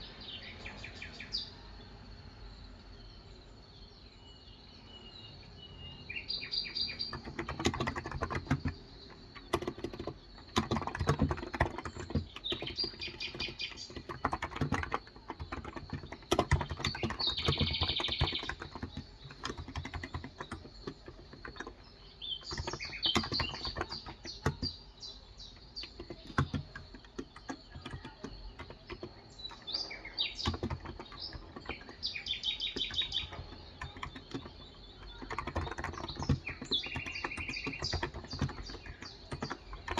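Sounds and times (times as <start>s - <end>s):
birds chirping: 0.0s - 39.9s
keyboard typing: 6.4s - 39.9s.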